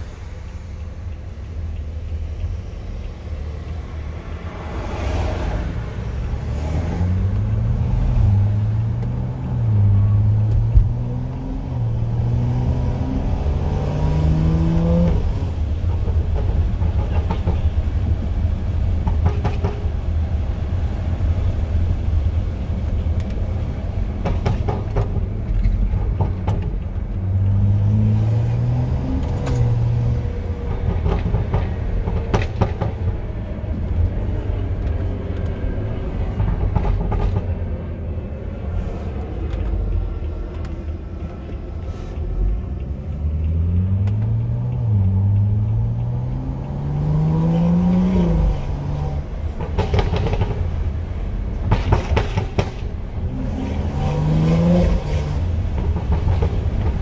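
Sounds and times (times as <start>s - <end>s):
low engine rumble: 0.0s - 57.0s
car engine accelerating: 3.0s - 19.0s, 25.4s - 37.4s, 38.6s - 57.0s.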